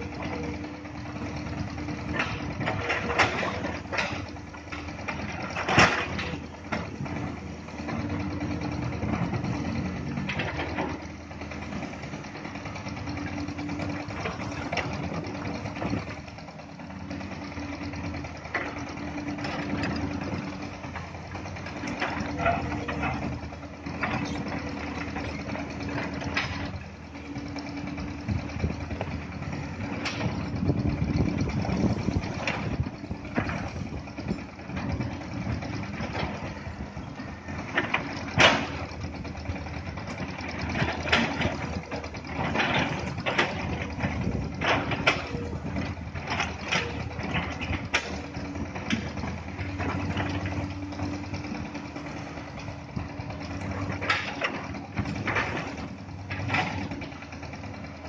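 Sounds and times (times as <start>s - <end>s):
excavator diesel engines running: 0.0s - 58.0s.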